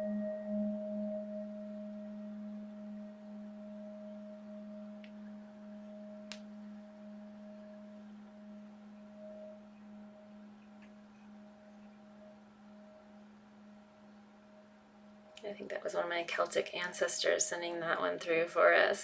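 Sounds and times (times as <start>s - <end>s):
singing bowl ringing: 0.0s - 15.4s.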